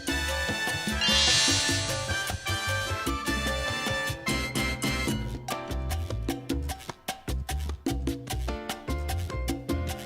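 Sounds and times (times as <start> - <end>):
upbeat latin-style music: 0.0 - 10.0.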